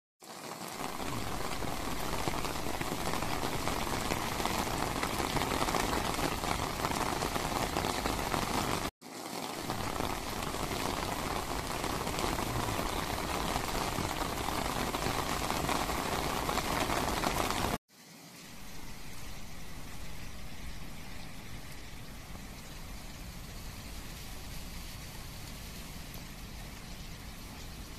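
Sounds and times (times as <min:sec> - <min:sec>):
heavy rain pouring: 0:00.2 - 0:17.8, 0:18.4 - 0:27.9.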